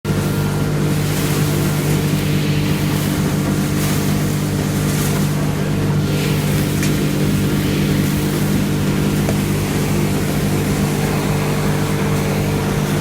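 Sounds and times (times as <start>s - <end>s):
air rushing through hose: 0.1s - 13.0s
extraction blower humming: 0.1s - 13.0s.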